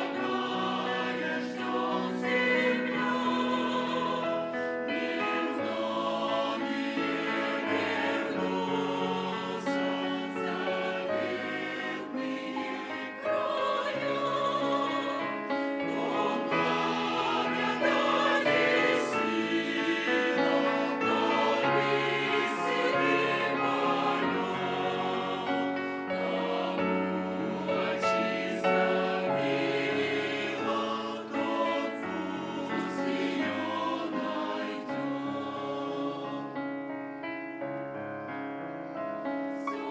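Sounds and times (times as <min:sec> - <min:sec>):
choir singing: 0:00.0 - 0:37.2, 0:38.0 - 0:39.9.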